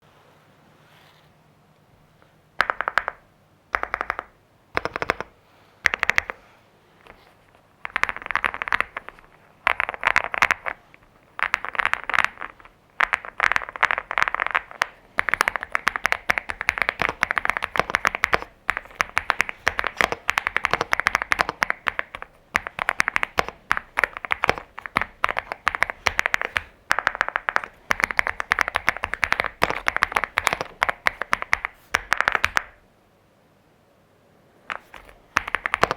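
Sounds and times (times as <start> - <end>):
mechanical keyboard typing: 2.6 - 6.4, 7.8 - 32.8, 34.7 - 35.9.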